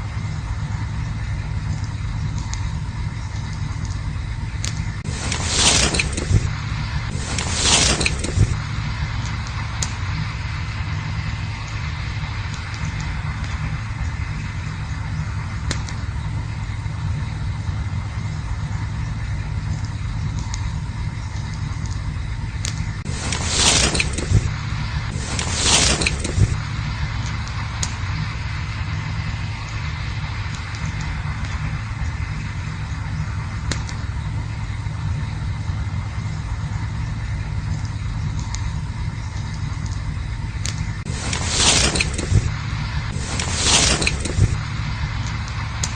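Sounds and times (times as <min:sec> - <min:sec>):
campfire crackling pops: 0:00.0 - 0:45.9
campfire rumbling: 0:00.0 - 0:45.9
fire hissing: 0:00.0 - 0:45.9.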